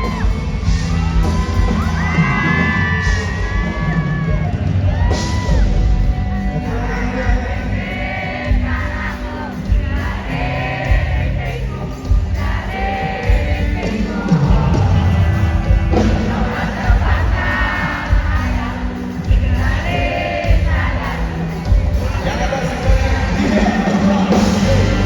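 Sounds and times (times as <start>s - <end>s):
crowd noise: 0.0s - 25.0s
live rock band: 0.0s - 25.0s
man singing: 2.0s - 25.0s.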